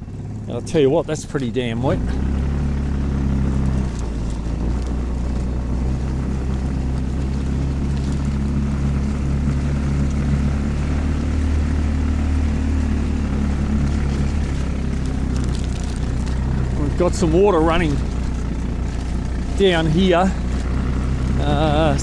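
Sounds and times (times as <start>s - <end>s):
buggy engine running: 0.0s - 22.0s.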